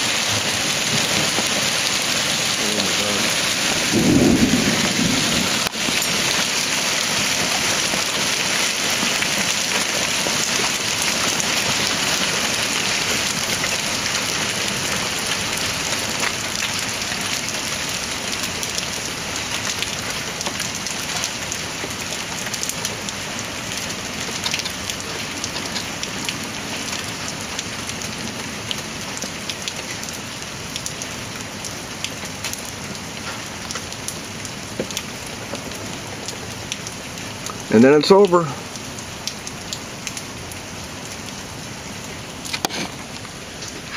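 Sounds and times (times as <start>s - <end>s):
hail ticking: 0.0s - 30.0s, 31.6s - 40.3s
heavy rain: 0.0s - 43.9s.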